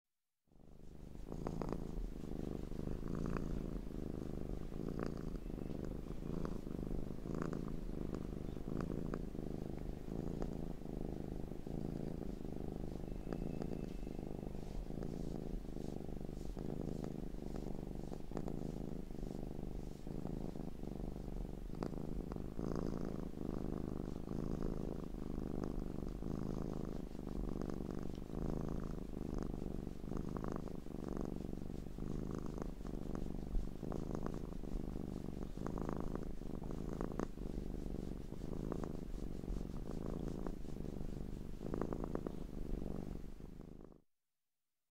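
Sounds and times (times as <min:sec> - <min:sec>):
cat purring: 0:00.5 - 0:44.0.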